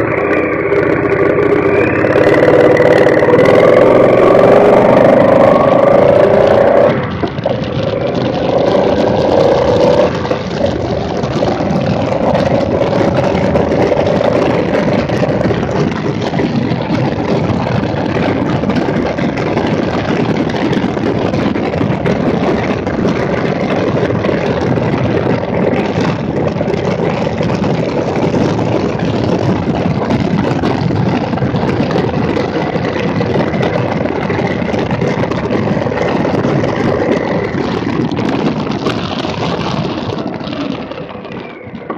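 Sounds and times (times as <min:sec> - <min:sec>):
motorcycle engine running: 0:00.0 - 0:41.9
wind rush on microphone: 0:00.0 - 0:41.9.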